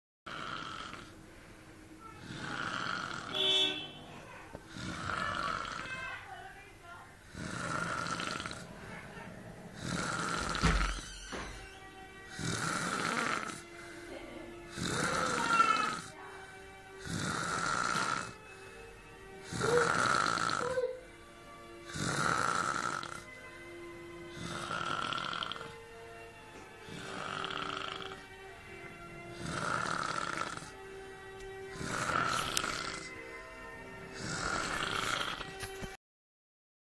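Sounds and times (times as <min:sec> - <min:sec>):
man snoring: 0:00.3 - 0:01.2, 0:02.0 - 0:03.8, 0:04.7 - 0:06.0, 0:07.2 - 0:25.9, 0:26.8 - 0:28.4, 0:29.2 - 0:31.0, 0:31.6 - 0:33.5, 0:34.1 - 0:35.8.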